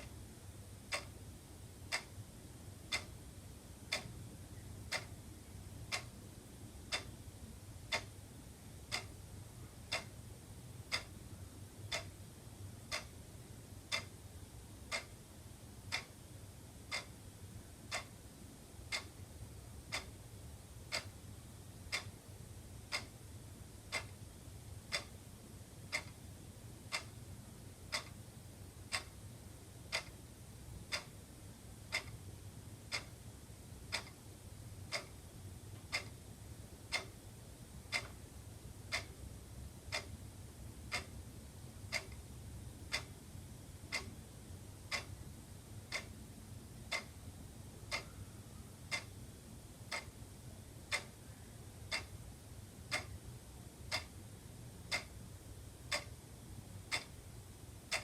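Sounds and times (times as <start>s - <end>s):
wall clock ticking: 0.0s - 49.2s, 49.8s - 58.0s
faint low hum: 0.0s - 58.0s.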